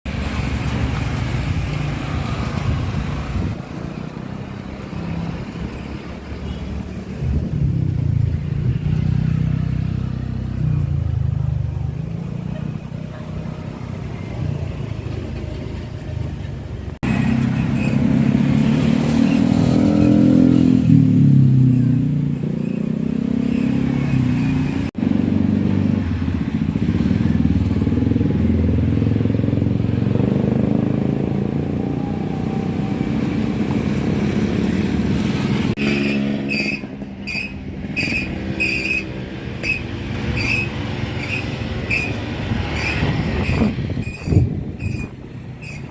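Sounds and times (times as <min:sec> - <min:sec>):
road traffic: 0:00.0 - 0:45.9
motorcycle engines passing: 0:00.1 - 0:45.9.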